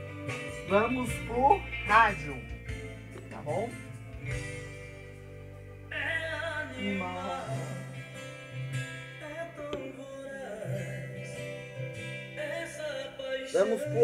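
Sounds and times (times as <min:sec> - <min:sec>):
music with singing over loudspeakers: 0:00.0 - 0:14.0.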